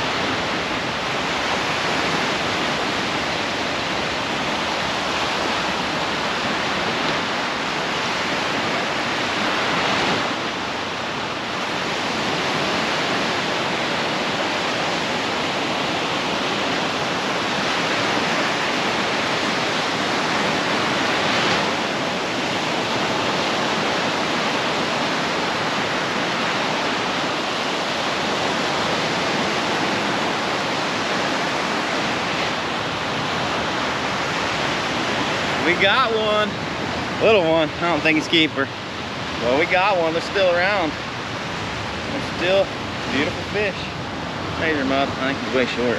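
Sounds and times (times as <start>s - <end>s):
small surf breaking on beach: 0.0s - 45.9s.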